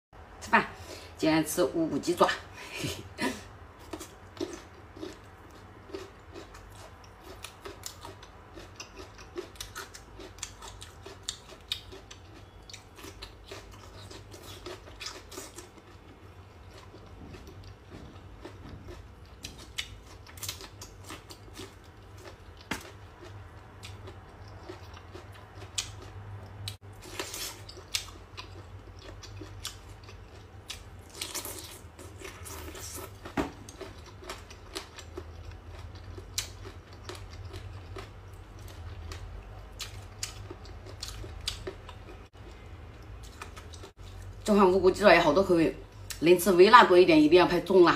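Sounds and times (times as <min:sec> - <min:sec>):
steady low hum: 0:00.2 - 0:47.9
crunchy chewing: 0:03.8 - 0:44.4.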